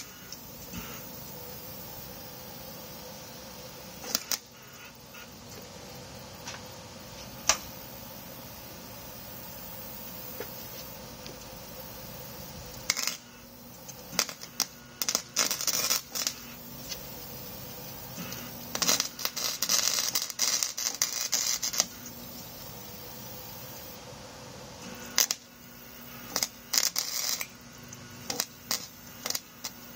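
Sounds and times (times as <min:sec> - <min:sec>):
arc welder crackling: 0:00.0 - 0:29.9.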